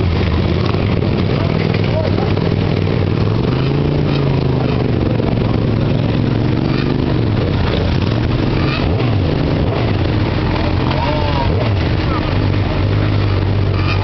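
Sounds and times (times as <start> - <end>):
motorcycle engine revving: 0.0 - 14.0
motorcycle engines running: 0.0 - 14.0.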